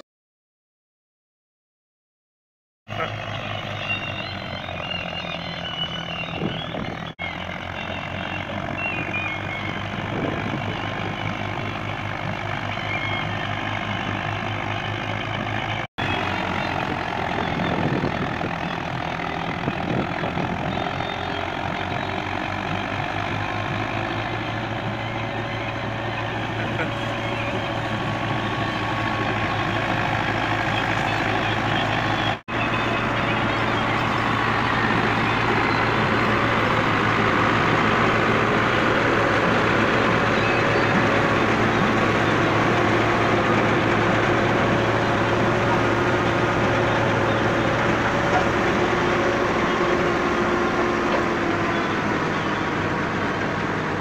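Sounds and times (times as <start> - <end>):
reaper machinery whirring: 2.9 - 54.0
tractor diesel engine running: 2.9 - 54.0.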